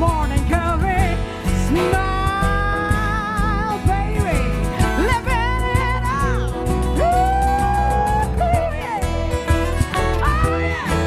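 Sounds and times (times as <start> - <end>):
bass: 0.0 - 11.0
guitar: 0.0 - 11.0
person singing with vibrato: 0.0 - 11.0.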